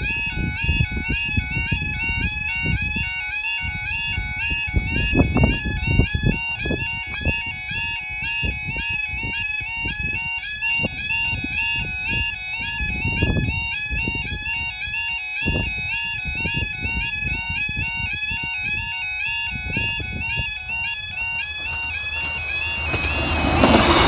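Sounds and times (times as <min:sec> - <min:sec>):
two-tone electronic crossing alarm: 0:00.0 - 0:24.0.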